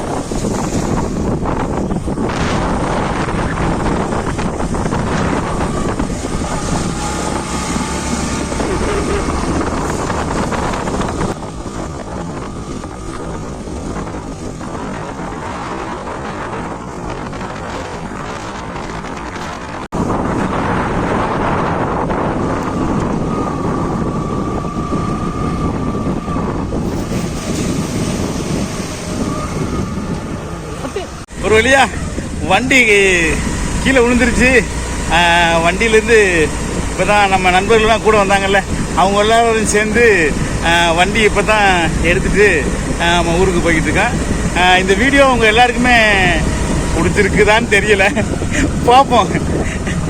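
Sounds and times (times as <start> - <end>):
motorbike engine running: 0.0 - 50.0
wind buffeting microphone: 0.0 - 50.0.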